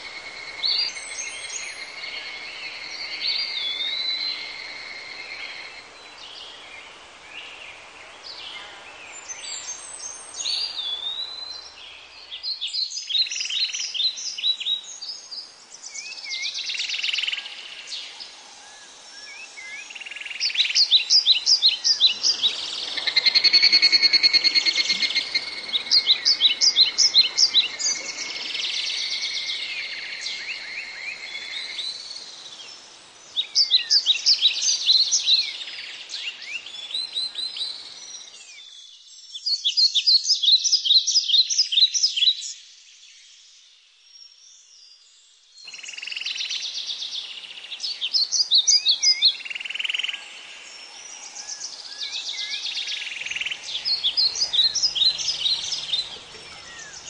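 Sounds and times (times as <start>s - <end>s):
birds rapid high chirping: 0.0s - 38.8s, 45.7s - 57.0s
background hiss: 0.0s - 57.0s.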